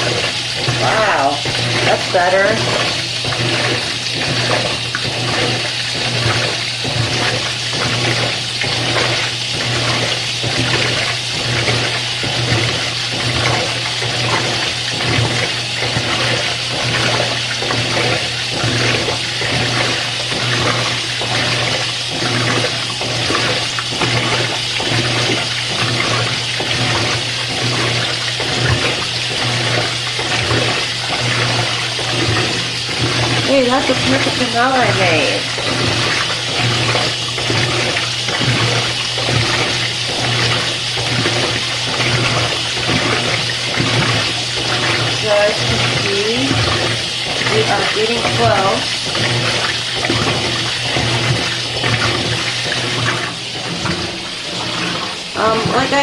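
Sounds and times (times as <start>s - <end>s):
low machine hum: 0.0s - 56.0s
water pouring into washing machine: 0.0s - 56.0s.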